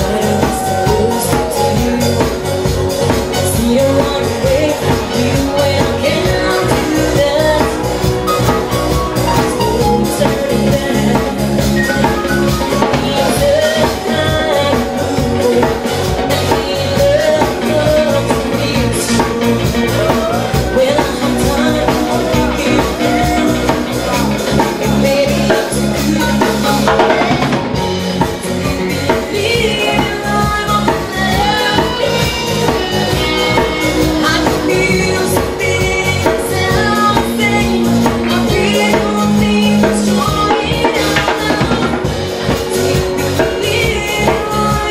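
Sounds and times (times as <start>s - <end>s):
drum kit beat: 0.0s - 44.9s
live band music: 0.0s - 44.9s.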